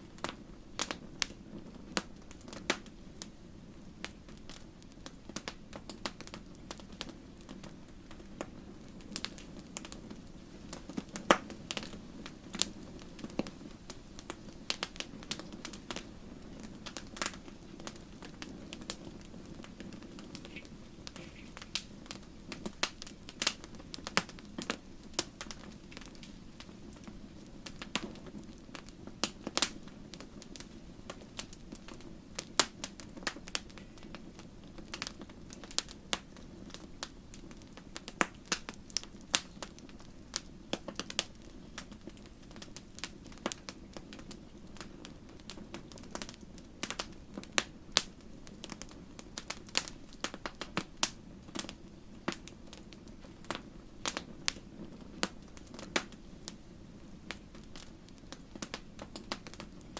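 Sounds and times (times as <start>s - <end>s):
burning wood crackling and popping: 0.0s - 59.9s
low rumble of flames: 0.0s - 59.9s.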